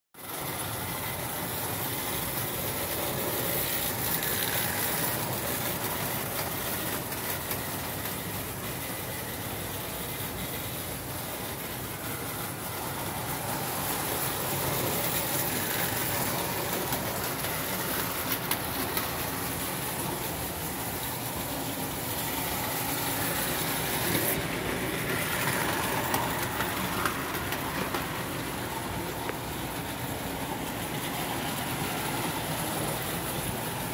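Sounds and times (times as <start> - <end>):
toy train wheels rattling on rails: 0.2 - 33.9.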